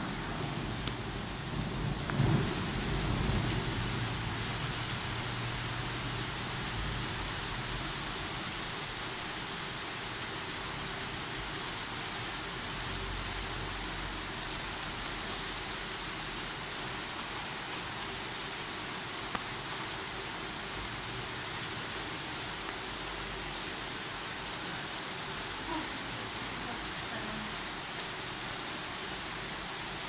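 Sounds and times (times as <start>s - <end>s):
rain on leaves and tiled roof: 0.0s - 30.0s.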